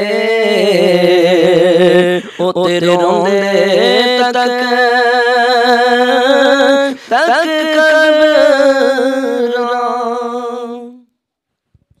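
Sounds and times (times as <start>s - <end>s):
man singing unaccompanied: 0.0s - 11.1s.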